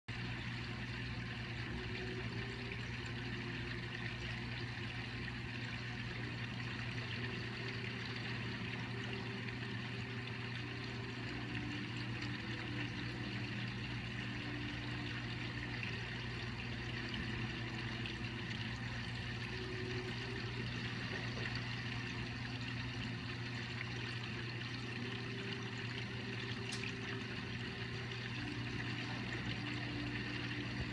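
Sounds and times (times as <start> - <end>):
aquarium pump hum: 0.1 - 30.9.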